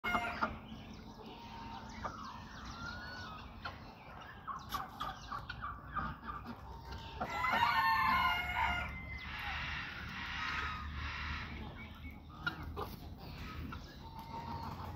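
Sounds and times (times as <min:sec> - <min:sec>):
fowl clucking: 0:00.0 - 0:14.9
peafowl calling: 0:00.0 - 0:14.9.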